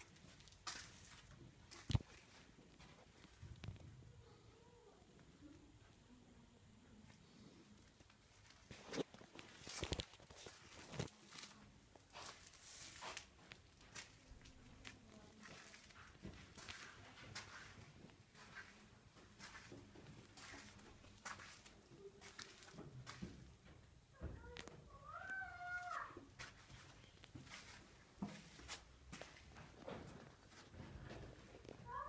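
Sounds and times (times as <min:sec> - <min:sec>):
footsteps: 0:00.0 - 0:03.7, 0:07.9 - 0:24.8, 0:25.6 - 0:32.0
faint scuffs and rustles: 0:00.0 - 0:03.9, 0:07.1 - 0:32.0.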